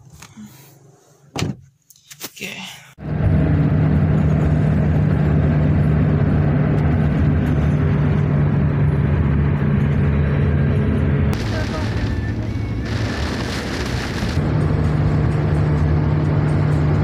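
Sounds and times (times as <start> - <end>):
car engine drone and road noise: 3.0 - 17.0.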